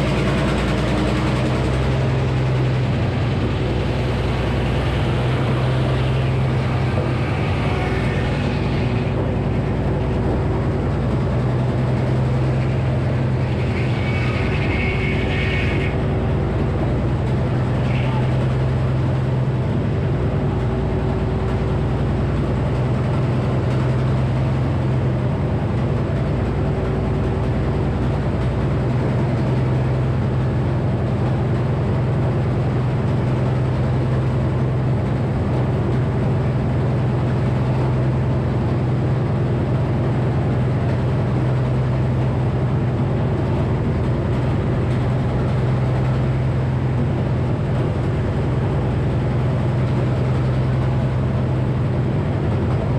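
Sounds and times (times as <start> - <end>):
sawmill circular blade running: 0.0 - 52.9.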